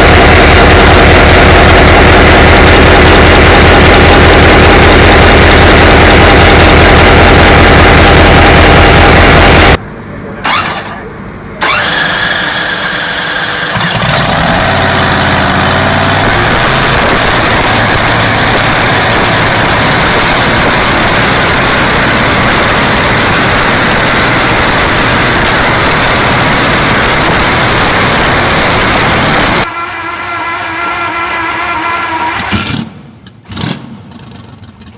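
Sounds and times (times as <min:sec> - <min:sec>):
large engine starting up: 0:00.0 - 0:09.8, 0:10.4 - 0:34.9.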